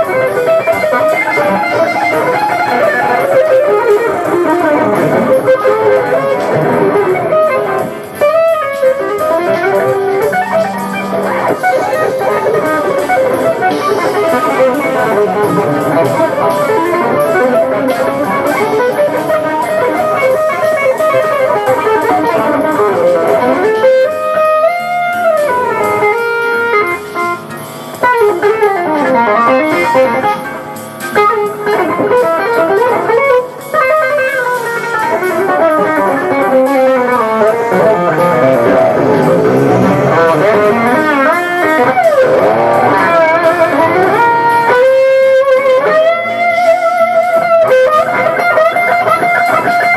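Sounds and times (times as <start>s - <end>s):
jazz fusion guitar playing: 0.0s - 49.9s.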